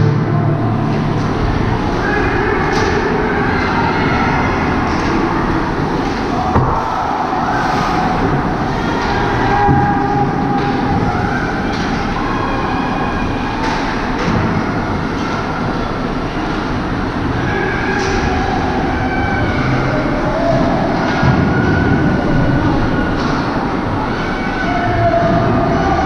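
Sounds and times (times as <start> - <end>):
echoing ice rink rumble: 0.0 - 26.0.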